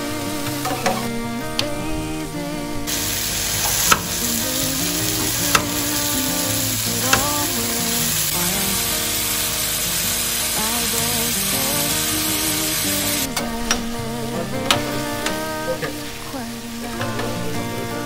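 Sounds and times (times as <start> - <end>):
background music with melody: 0.0 - 18.0
burger patties sizzling: 0.0 - 18.0.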